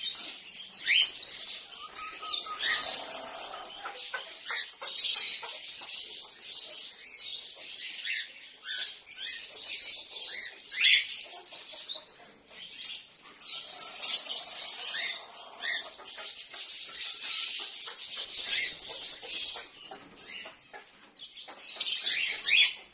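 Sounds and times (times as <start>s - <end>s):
cockatiels chirping and calling: 0.0s - 22.9s.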